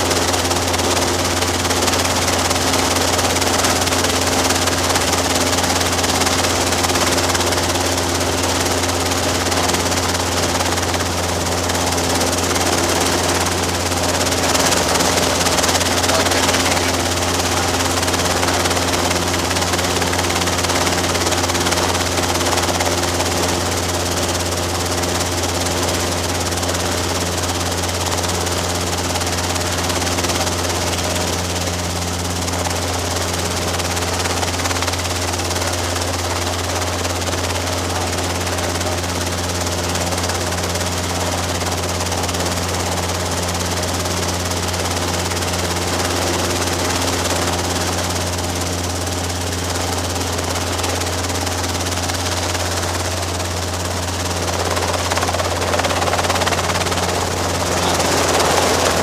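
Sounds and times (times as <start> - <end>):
helicopter rotor and engine drone: 0.0 - 59.0.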